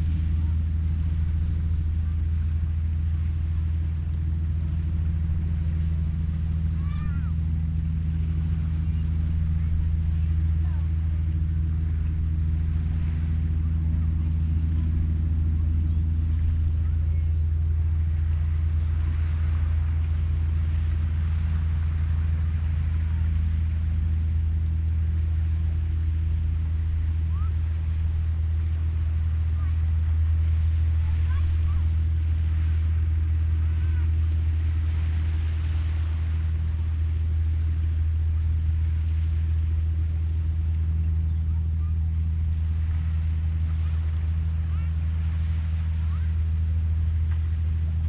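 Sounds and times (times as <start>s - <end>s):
low rumble: 0.0s - 48.0s
steady low hum: 0.0s - 48.0s
waves washing onto beach: 0.0s - 48.0s.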